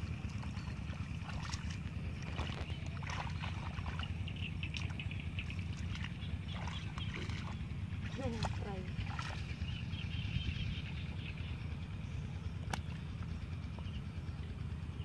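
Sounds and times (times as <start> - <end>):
muddy water sloshing and splashing: 0.0 - 14.9
low rumble: 0.0 - 15.0.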